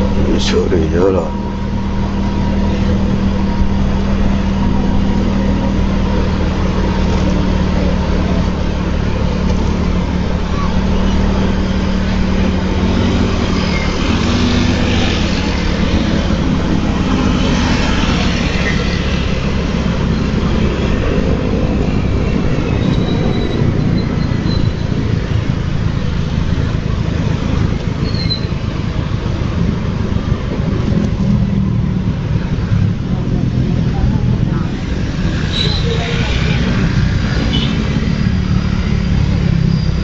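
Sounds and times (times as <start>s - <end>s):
motor scooter running: 0.0s - 40.0s
wind and road noise rumble: 0.0s - 40.0s.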